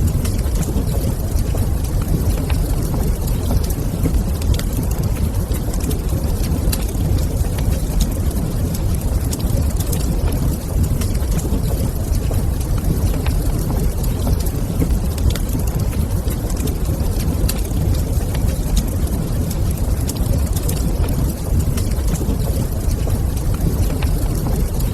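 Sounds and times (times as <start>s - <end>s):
low rumble of fire: 0.0s - 24.9s
wood fire crackling: 0.0s - 24.9s.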